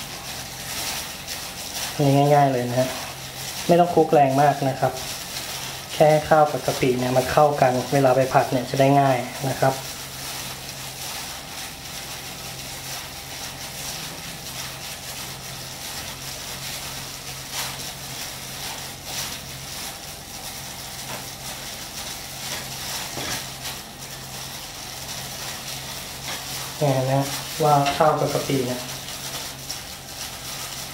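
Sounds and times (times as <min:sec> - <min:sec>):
gloved hand squishing wet rice: 0:00.0 - 0:30.9.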